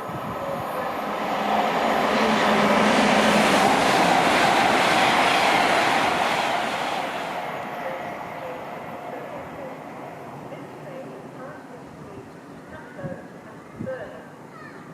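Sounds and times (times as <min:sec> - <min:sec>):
train passing at speed: 0:00.0 - 0:14.5.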